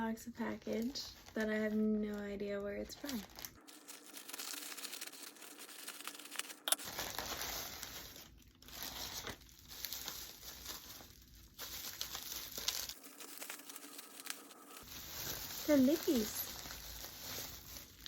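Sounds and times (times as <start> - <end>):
package wrapping tearing and crinkling: 3.0 - 18.0
sharp crackle: 3.0 - 18.0.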